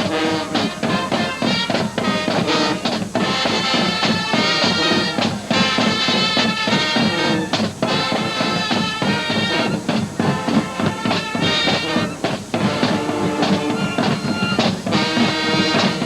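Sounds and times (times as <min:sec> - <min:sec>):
marching band brass: 0:00.0 - 0:16.0
steady drum beat: 0:00.0 - 0:16.0.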